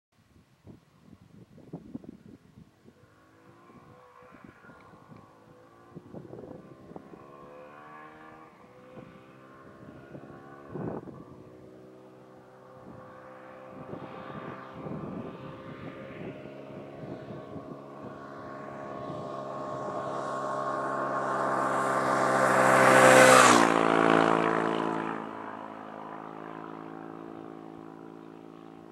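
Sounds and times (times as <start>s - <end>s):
motorcycle passing by: 2.0s - 28.9s.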